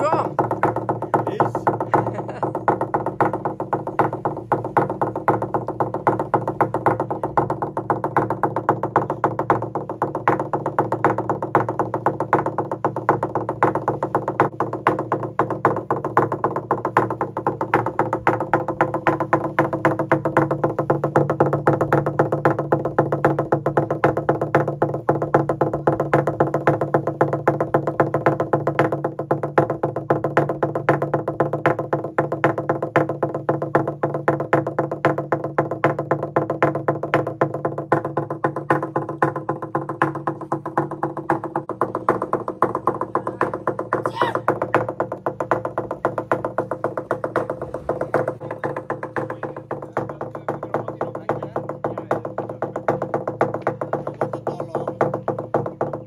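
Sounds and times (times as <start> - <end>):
slit drum beaten with sticks: 0.0 - 56.0.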